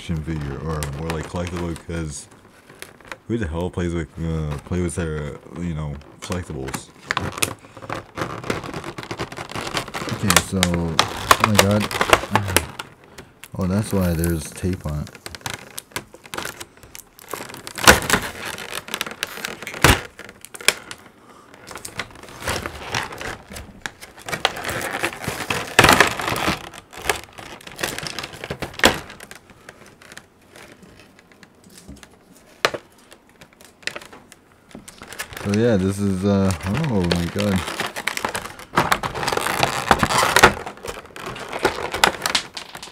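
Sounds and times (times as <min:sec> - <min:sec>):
packaging crinkling and scraping: 0:00.0 - 0:42.9
packing tape tearing off cardboard: 0:00.0 - 0:42.9.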